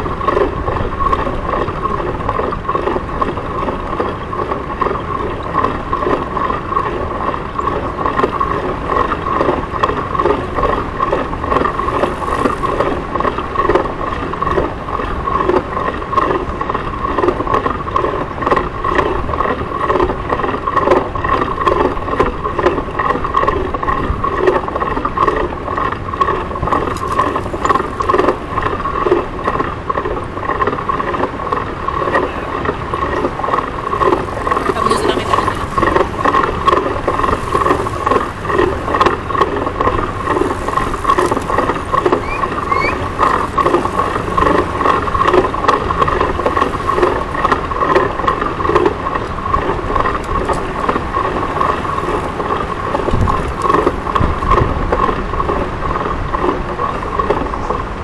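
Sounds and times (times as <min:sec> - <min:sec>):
bicycle tyre noise: 0:00.0 - 0:57.4
bike rattles and ticks: 0:00.0 - 0:58.0.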